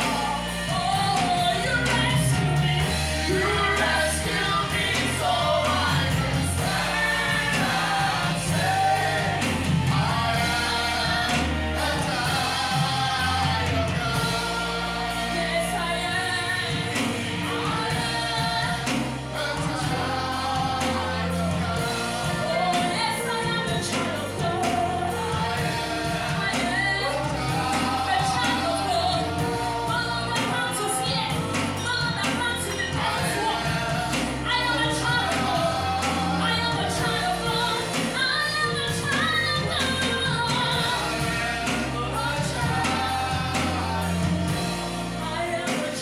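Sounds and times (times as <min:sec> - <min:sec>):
band accompaniment: 0:00.0 - 0:46.0
bass line: 0:00.0 - 0:46.0
voices singing: 0:00.0 - 0:46.0.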